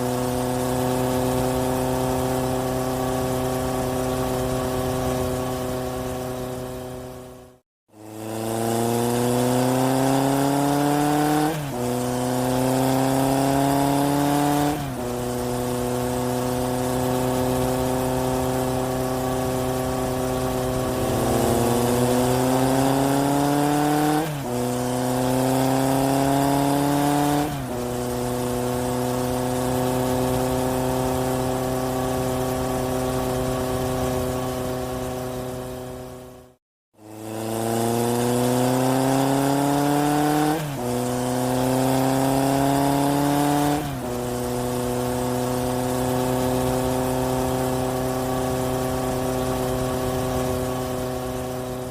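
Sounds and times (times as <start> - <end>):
car engine accelerating through gears: 8.0 - 36.1, 37.0 - 51.9.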